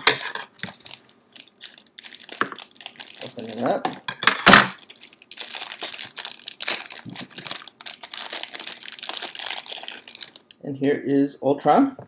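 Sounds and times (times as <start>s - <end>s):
plastic bag crinkling and rustling: 0.0s - 10.6s.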